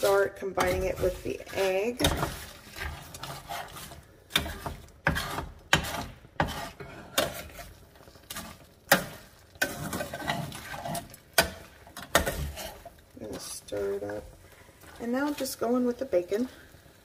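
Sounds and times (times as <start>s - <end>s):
metal spoon scraping a skillet: 0.0s - 14.2s.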